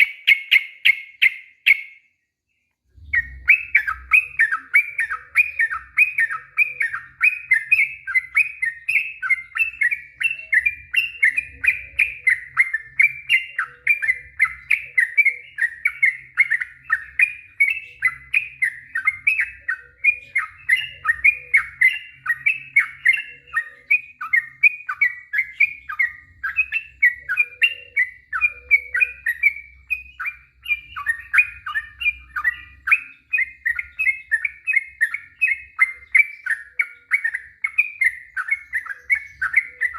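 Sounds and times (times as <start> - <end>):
bird singing quick chirping notes: 2.9 - 39.9.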